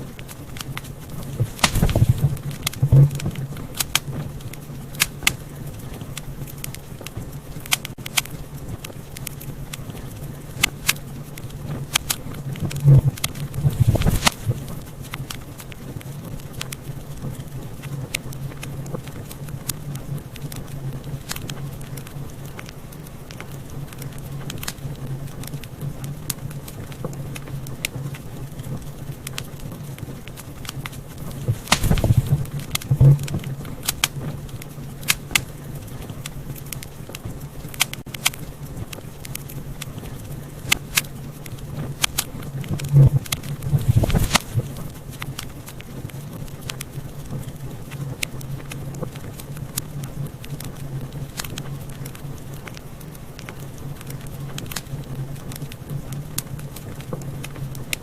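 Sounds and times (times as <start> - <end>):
fire roaring in fireplace: 0.0 - 58.0
wood crackling and popping: 0.0 - 58.0.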